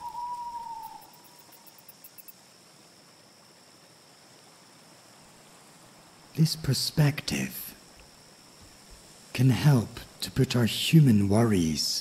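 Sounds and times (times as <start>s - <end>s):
steady soft hiss: 0.0s - 12.0s.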